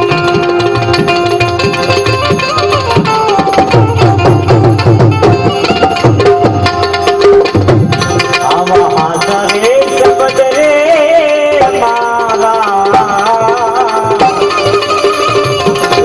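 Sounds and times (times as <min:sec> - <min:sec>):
harmonium note: 0:00.0 - 0:16.0
keyed banjo melody: 0:00.0 - 0:16.0
tabla strokes: 0:00.0 - 0:16.0.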